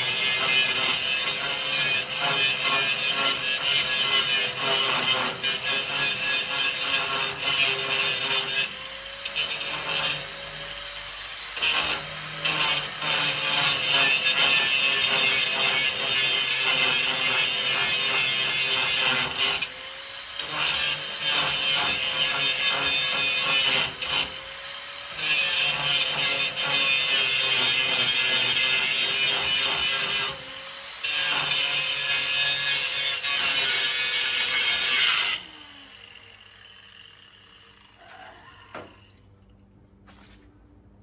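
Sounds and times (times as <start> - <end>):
grinder rasping on sheet steel: 0.0 - 39.2.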